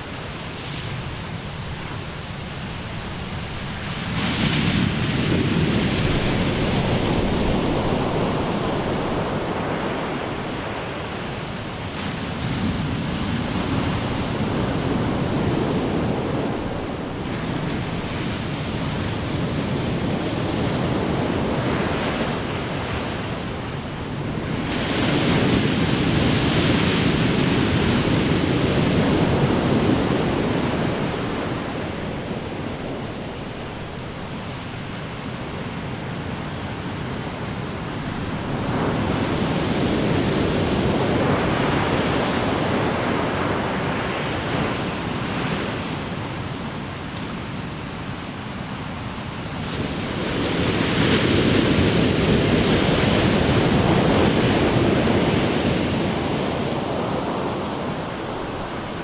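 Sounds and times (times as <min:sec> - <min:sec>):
ocean waves crashing: 0:00.0 - 0:59.0.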